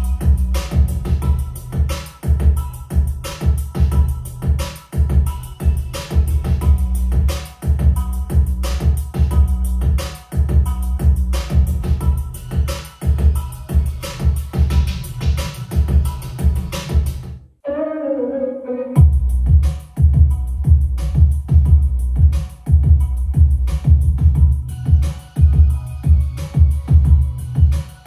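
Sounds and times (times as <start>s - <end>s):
music with heavy bass and drums: 0.0s - 17.3s, 19.0s - 28.0s.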